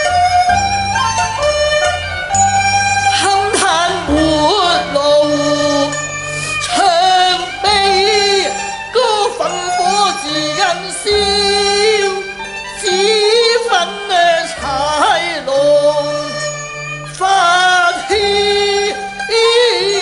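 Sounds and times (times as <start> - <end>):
chinese opera ensemble music: 0.0 - 20.0.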